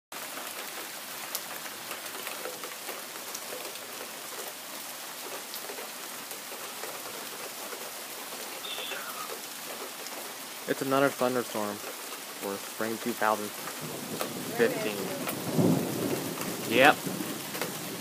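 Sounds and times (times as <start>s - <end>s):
rain hiss: 0.2s - 18.0s
raindrops ticking: 0.2s - 18.0s.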